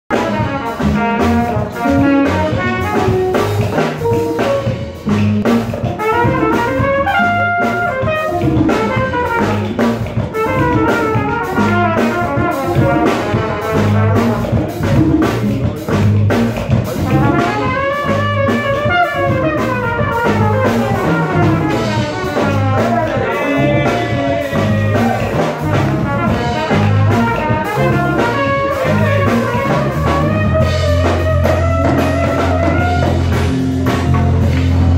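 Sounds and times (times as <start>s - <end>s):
horn section playing: 0.1s - 15.3s, 16.9s - 34.9s
drum kit: 0.1s - 34.9s
electric bass: 0.1s - 34.9s
djembes: 0.2s - 34.9s.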